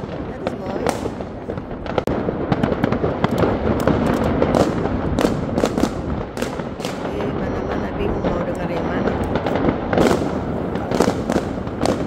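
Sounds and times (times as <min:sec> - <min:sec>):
firecracker bangs: 0:00.0 - 0:12.0
fireworks crackling: 0:00.0 - 0:12.0.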